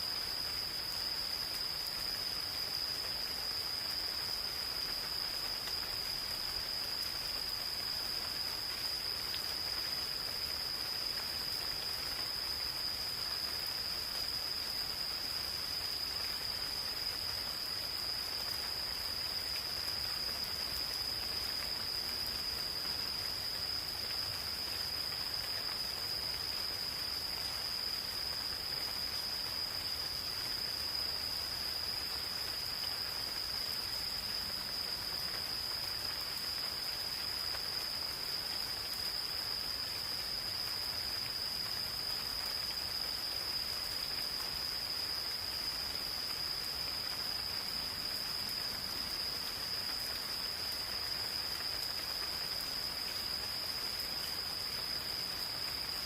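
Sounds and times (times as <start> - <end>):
gentle rain in a forest: 0.0 - 56.0
insects trilling: 0.0 - 56.0.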